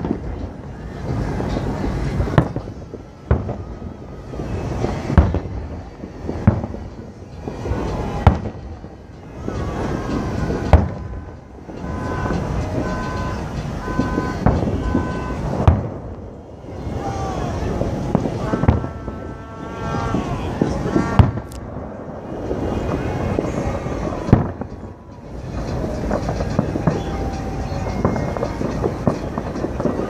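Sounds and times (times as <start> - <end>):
fireworks bursting: 0.0 - 30.0
steady background rush: 0.0 - 30.0.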